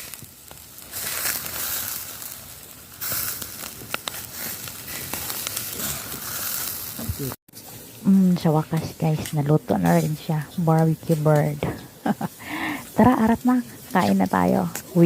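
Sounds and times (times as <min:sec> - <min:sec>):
meat sizzling and crackling: 0:00.0 - 0:15.0.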